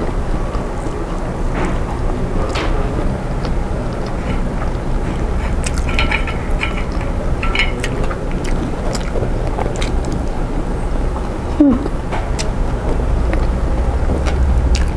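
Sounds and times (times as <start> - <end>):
low rumble: 0.0 - 14.9.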